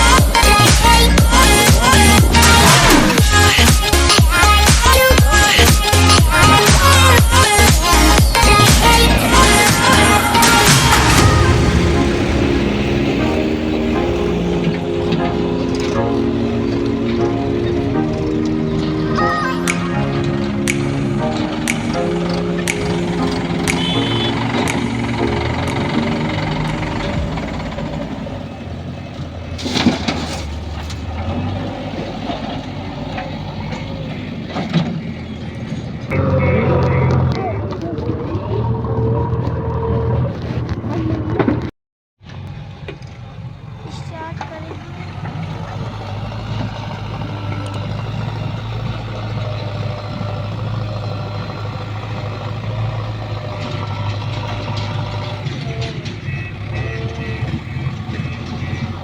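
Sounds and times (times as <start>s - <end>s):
diesel engine running: 0.0s - 41.4s, 42.2s - 59.0s.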